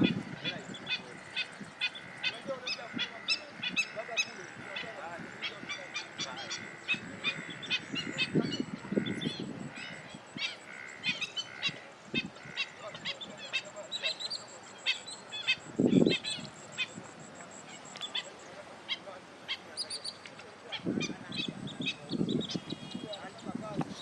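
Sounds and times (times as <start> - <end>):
birds chirping: 0.0 - 24.0
birds honking: 0.0 - 24.0.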